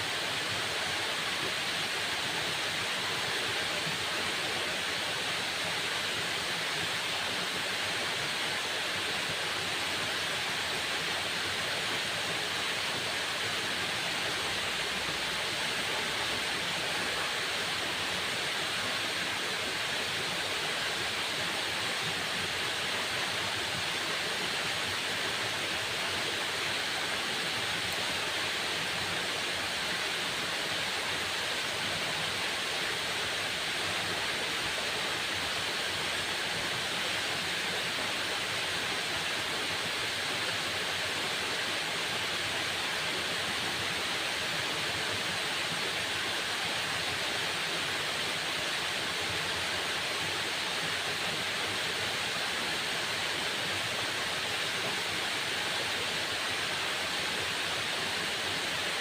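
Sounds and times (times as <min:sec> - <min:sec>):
waterfall hissing: 0:00.0 - 0:59.0.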